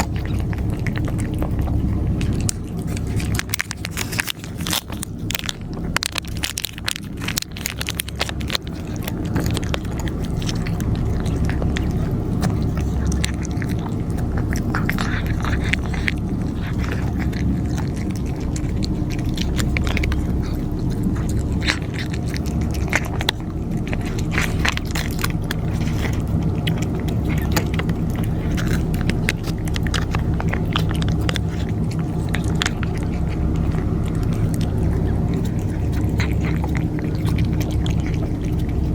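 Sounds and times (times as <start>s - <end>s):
cats crunching dry food: 0.0s - 38.9s
steady low hum: 0.0s - 38.9s.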